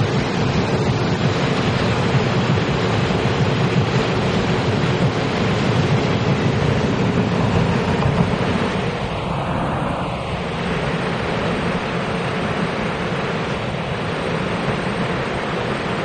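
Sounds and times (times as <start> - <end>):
passenger train passing: 0.0 - 16.0
train wheels on rails: 0.0 - 16.0.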